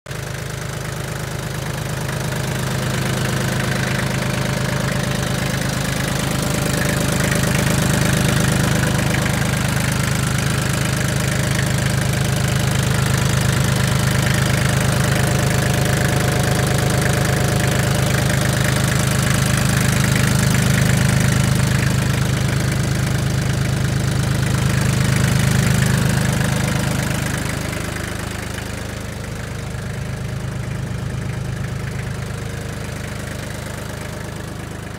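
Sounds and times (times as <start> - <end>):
diesel tractor engine idling: 0.1 - 34.9.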